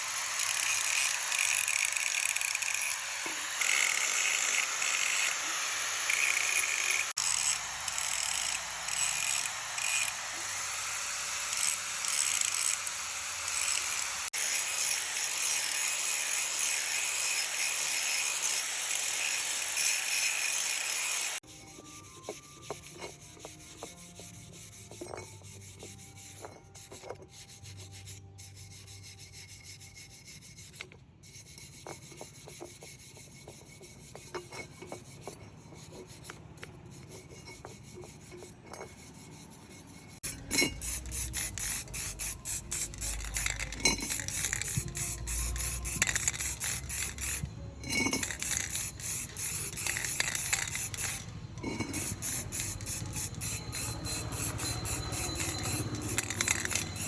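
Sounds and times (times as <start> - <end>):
hand rubbing and rasping on a part: 0.0 - 10.6, 11.2 - 57.0.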